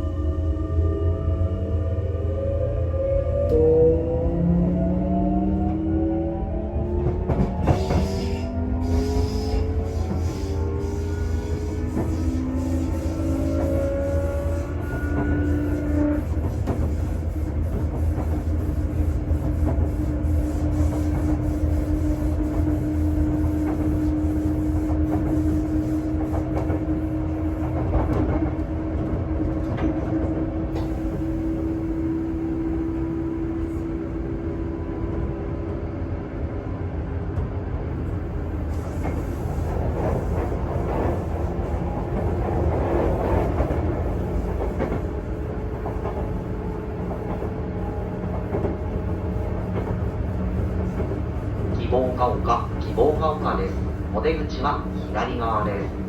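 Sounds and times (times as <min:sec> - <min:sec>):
train running rumble: 0:03.4 - 0:56.0.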